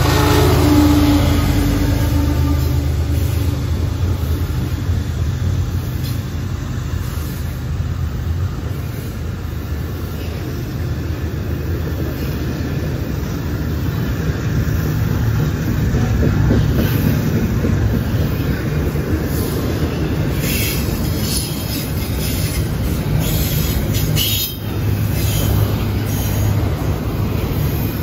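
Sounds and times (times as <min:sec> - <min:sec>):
locomotive diesel hum: 0:00.0 - 0:28.0
steel wheels rumbling on rail: 0:00.0 - 0:28.0.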